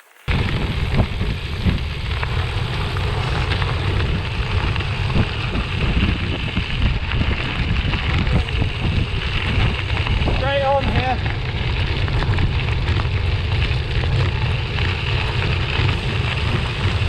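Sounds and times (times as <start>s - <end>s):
bicycle tyres rolling on gravel: 0.0s - 17.0s
stones crunching and ticking: 0.0s - 17.0s
wind on microphone: 0.0s - 17.0s.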